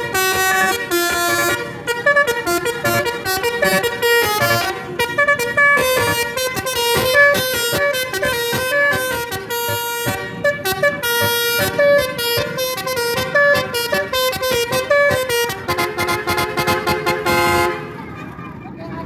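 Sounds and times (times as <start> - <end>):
musical vehicle horn tune: 0.0 - 18.1.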